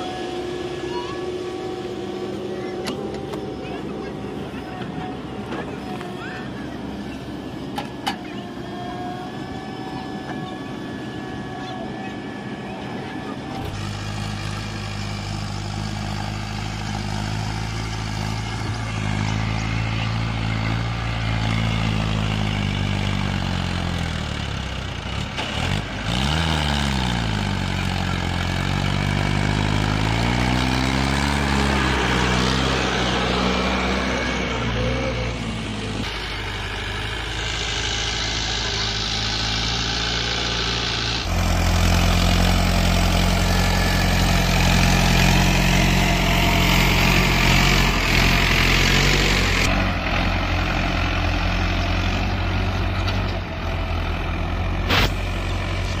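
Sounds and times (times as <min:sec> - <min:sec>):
diesel tractor engine under load: 0:00.0 - 0:56.0.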